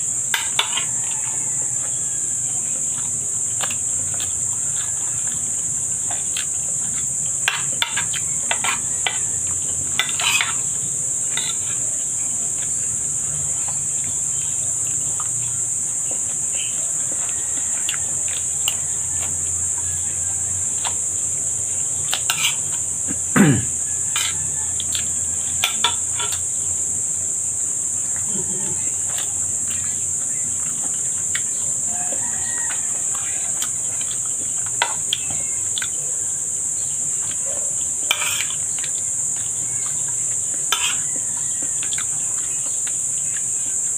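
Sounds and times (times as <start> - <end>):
steady high-pitched hiss: 0.0 - 43.9.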